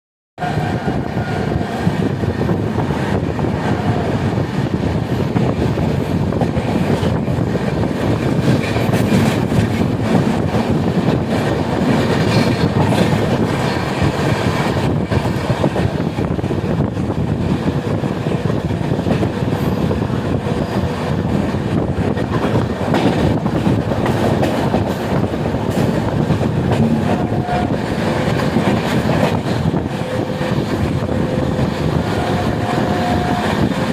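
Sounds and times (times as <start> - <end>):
clickety-clack over rail joints: 0.4 - 33.9
train wheels rumbling on rail: 0.4 - 33.9.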